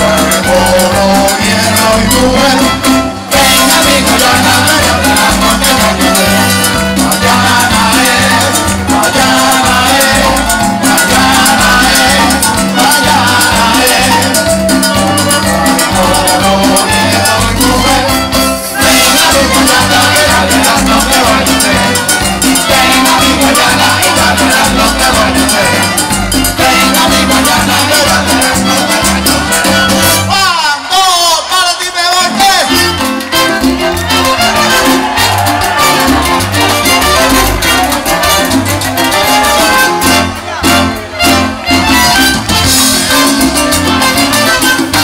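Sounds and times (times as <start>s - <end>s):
trombones: 0.0s - 30.4s, 32.4s - 45.0s
steady bass line: 0.0s - 30.6s, 32.6s - 45.0s
percussion: 0.0s - 45.0s
salsa band playing: 0.0s - 45.0s.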